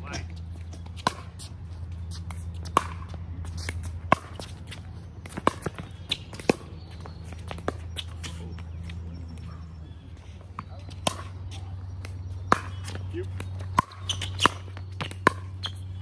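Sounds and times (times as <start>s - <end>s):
steady low hum: 0.0s - 16.0s
ball bouncing on hard court: 0.7s - 16.0s
paddles hitting ball: 0.7s - 16.0s.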